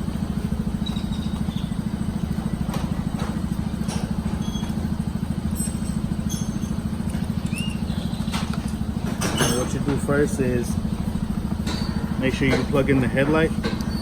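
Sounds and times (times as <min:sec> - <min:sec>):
engine idling: 0:00.0 - 0:14.0
hand tools clicking and squeaking: 0:00.0 - 0:14.0.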